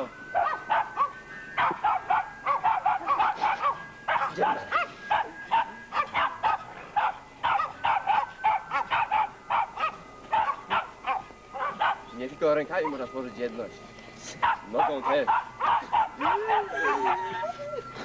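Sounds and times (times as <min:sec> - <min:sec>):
dog yapping: 0:00.4 - 0:12.0, 0:14.4 - 0:17.2.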